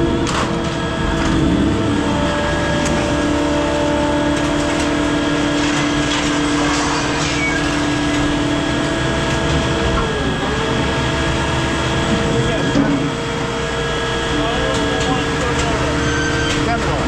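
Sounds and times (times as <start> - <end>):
hydraulic machinery humming: 0.0 - 17.0.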